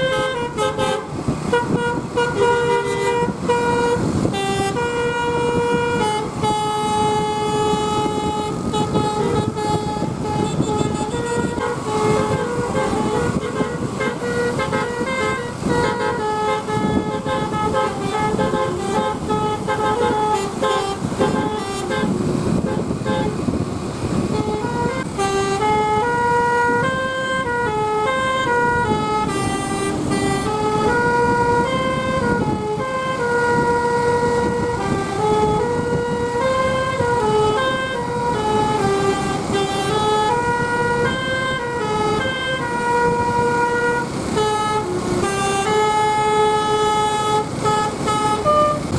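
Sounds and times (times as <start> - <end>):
low rumble of moving bus: 0.0 - 48.9
multi-tone bus horn tune: 0.0 - 48.9.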